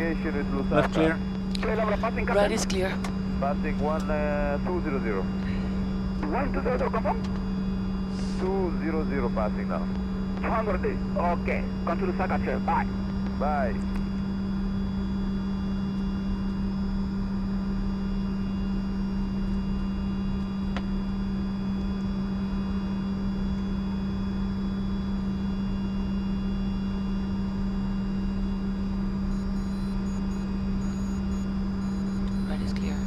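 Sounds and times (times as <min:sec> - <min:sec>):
jet engines low hum and whine: 0:00.0 - 0:33.0.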